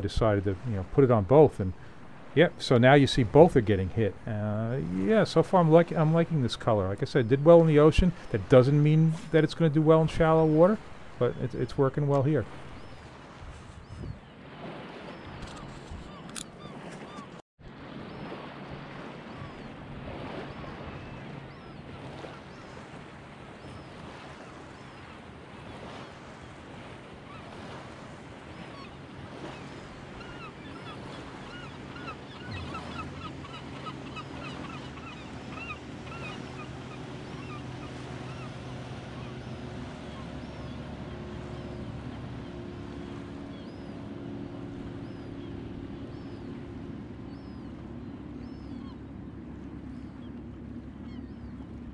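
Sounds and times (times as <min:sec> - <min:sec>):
birds calling: 0:00.0 - 0:51.9
distant motorboat engine droning: 0:00.0 - 0:51.9
small waves lapping: 0:00.0 - 0:51.9
wind: 0:00.0 - 0:51.9.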